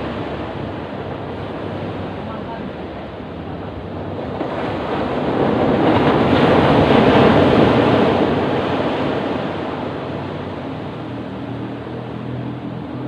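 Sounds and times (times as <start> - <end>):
ocean waves rushing: 0.0 - 13.0.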